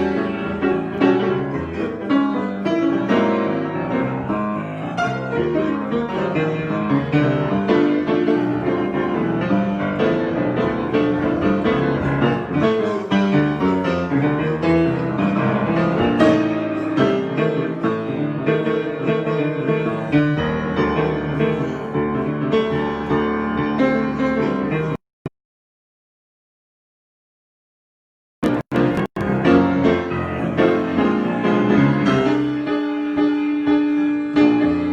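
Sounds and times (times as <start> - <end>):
solo piano improvisation: 0.0 - 25.0, 28.4 - 34.9.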